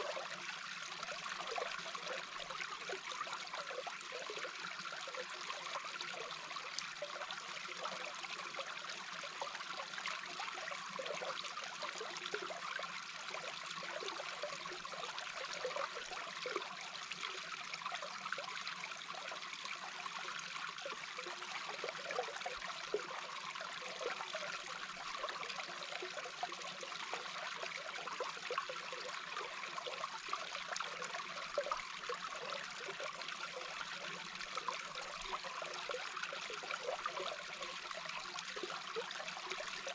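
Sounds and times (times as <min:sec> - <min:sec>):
brook water heard underwater: 0:00.0 - 0:39.9.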